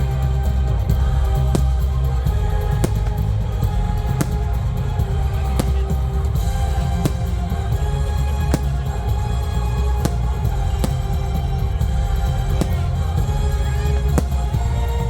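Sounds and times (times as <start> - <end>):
loud bass-heavy music: 0.0 - 15.0.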